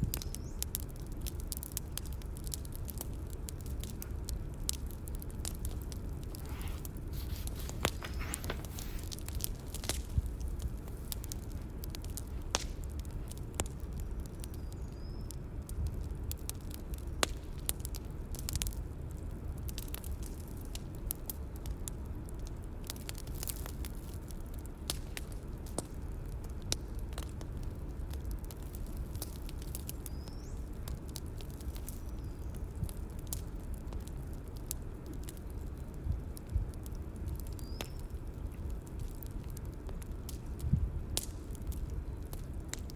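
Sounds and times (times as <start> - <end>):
bonfire crackling: 0.0 - 42.9
burning wood popping: 0.0 - 42.9.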